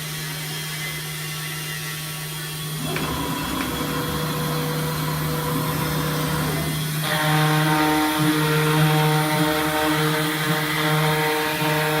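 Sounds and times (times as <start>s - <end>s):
router machine humming and whining: 0.0s - 12.0s.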